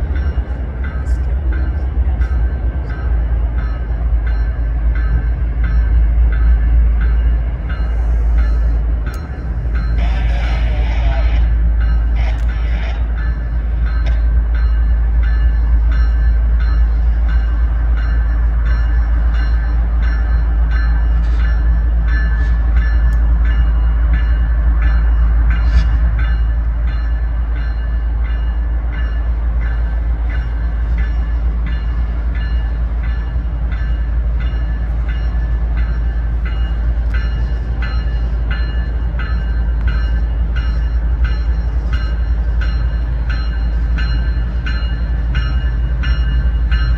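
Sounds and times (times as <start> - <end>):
diesel locomotives rumbling: 0.0 - 46.9.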